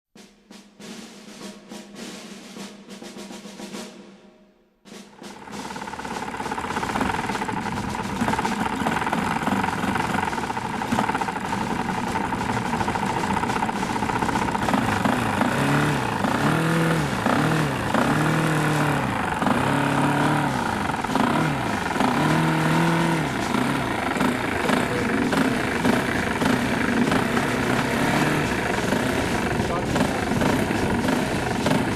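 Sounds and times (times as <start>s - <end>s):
model aircraft engine revving: 5.2s - 31.9s.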